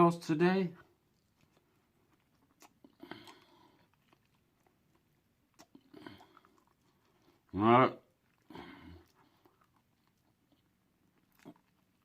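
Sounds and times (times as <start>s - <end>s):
faint chewing with crunchy bites: 0.1s - 12.0s.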